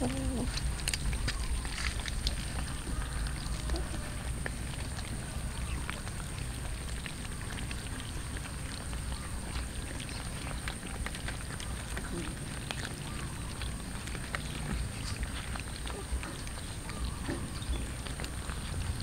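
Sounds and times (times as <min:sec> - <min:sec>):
cats chewing and lapping: 0:00.0 - 0:19.0.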